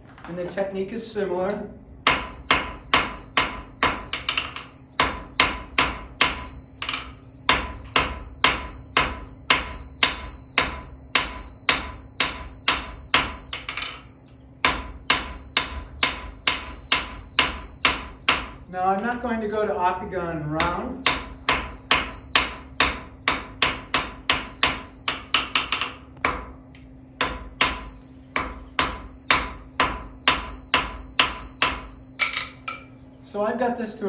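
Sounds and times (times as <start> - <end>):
hammer striking steel on anvil: 2.0 - 19.2, 20.6 - 33.1
anvil ringing: 2.0 - 19.3, 20.6 - 33.2.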